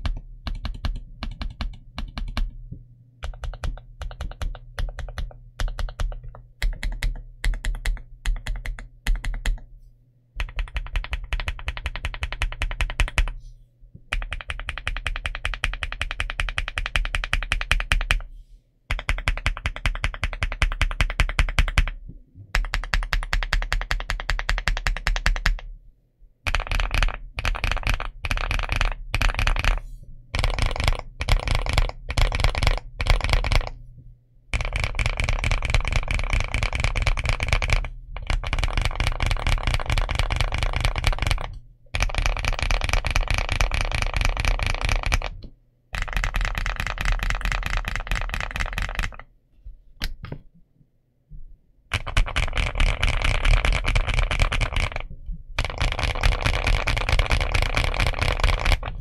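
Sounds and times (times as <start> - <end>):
mechanical keyboard typing clacks: 0.0 - 2.6, 3.2 - 9.6, 10.4 - 13.4, 14.1 - 18.3, 18.9 - 25.7, 26.5 - 29.8, 30.4 - 33.8, 34.5 - 45.4, 46.0 - 49.2, 51.9 - 59.0.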